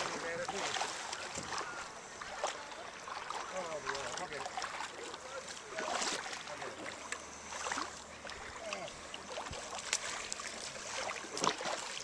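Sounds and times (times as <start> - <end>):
wading splashes in river water: 0.0 - 12.0.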